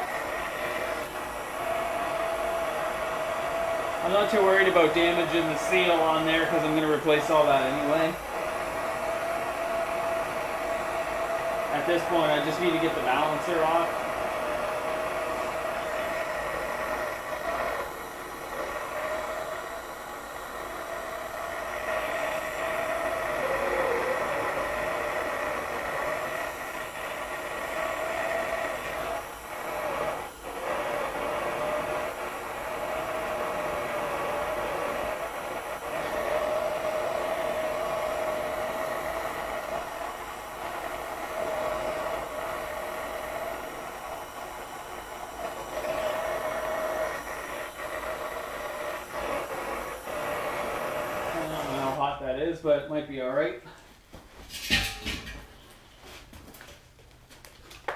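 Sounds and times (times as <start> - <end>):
heat gun whining: 0.0 - 52.4.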